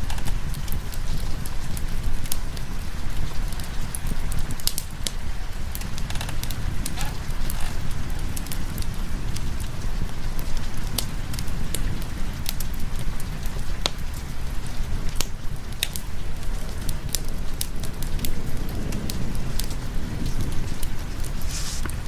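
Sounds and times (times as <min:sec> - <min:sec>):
steady rain: 0:00.0 - 0:22.0
wood fire crackling and popping: 0:00.0 - 0:22.0.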